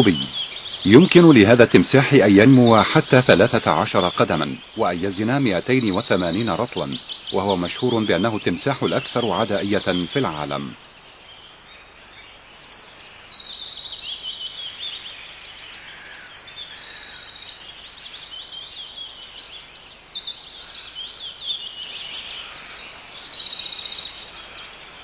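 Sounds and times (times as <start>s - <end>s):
birds chirping and trilling: 0.0s - 25.0s
insects chirping: 0.0s - 25.0s.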